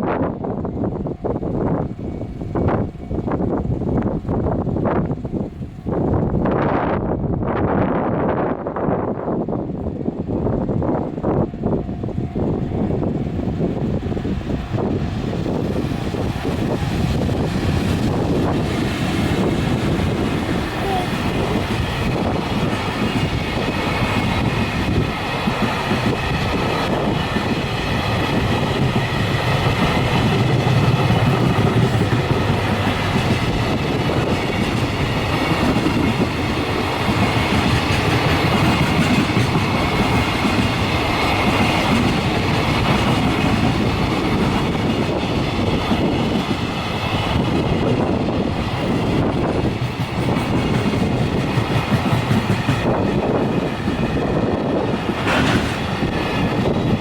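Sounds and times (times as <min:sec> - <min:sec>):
freight train rolling on rails: 0:00.0 - 0:57.0
wind buffeting microphone: 0:00.0 - 0:57.0.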